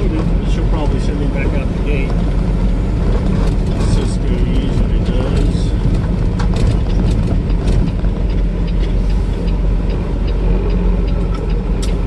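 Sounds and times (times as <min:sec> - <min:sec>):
road noise inside cab: 0:00.0 - 0:12.0
truck diesel engine rumble: 0:00.0 - 0:12.0.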